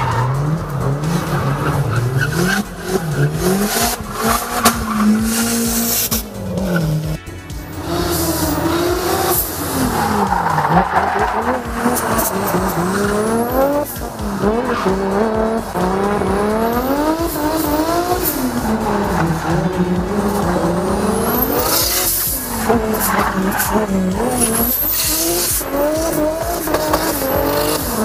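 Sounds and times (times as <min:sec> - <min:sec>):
engine revving: 0:00.0 - 0:28.0
tyres squealing and skidding: 0:00.0 - 0:28.0.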